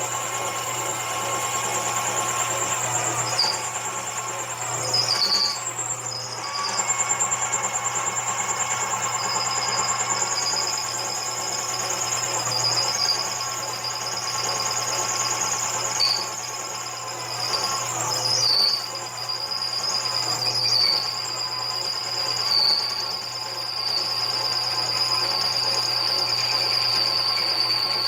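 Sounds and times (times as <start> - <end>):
drill bit pulsing squeal: 0.0 - 28.0
lathe motor hum: 0.0 - 28.0.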